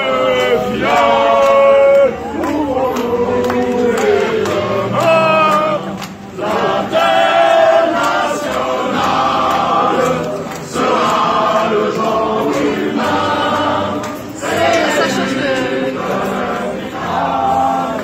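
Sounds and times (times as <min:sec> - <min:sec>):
crowd singing a chant: 0:00.0 - 0:18.0.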